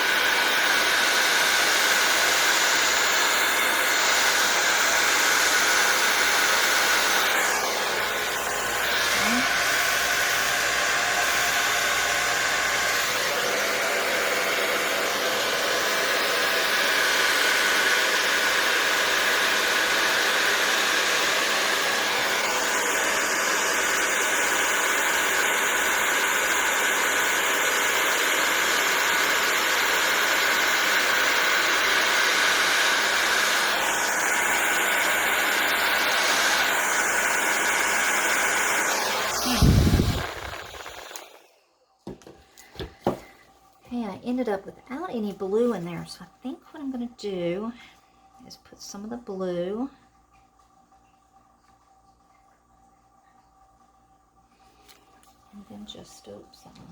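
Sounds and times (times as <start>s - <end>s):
hair dryer blowing: 0.0s - 46.2s.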